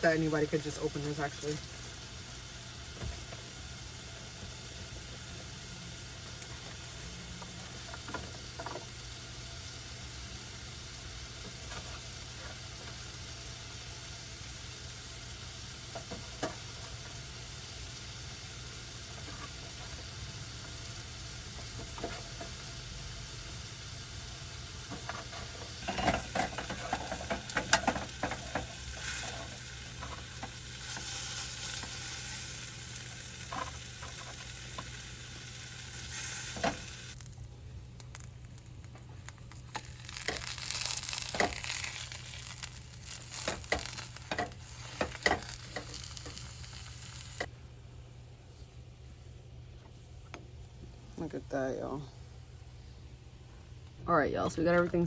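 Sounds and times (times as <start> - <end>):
food sizzling in a frying pan: 0.0 - 47.5.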